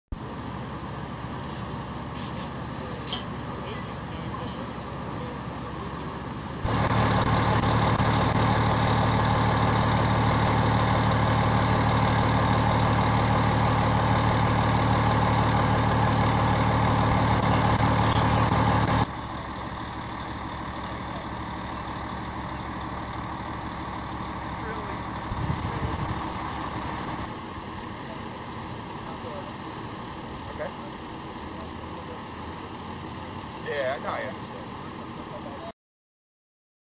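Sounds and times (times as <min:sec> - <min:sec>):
engine and road background: 0:00.1 - 0:35.7
heavy vehicle engine idling: 0:00.1 - 0:35.7.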